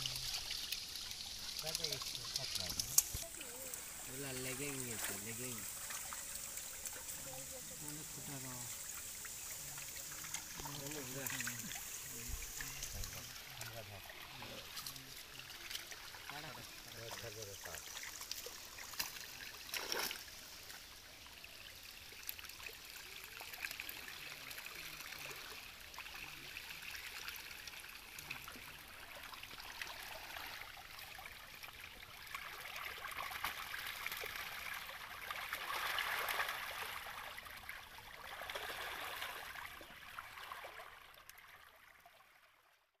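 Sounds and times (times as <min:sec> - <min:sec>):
fish splashing in water: 0:00.0 - 0:41.6.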